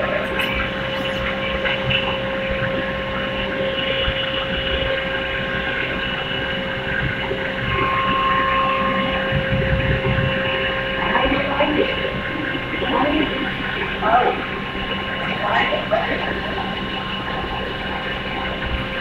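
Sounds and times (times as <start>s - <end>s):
furnace electrical tone: 0.0s - 19.0s
higher electrical tone: 0.0s - 19.0s
industrial hum: 0.0s - 19.0s.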